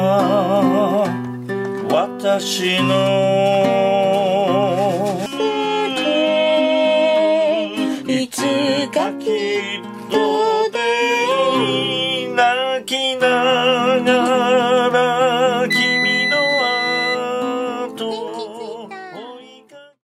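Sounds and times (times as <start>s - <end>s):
fingerpicked classical guitar: 0.0s - 19.9s
person singing with vibrato: 2.6s - 20.0s.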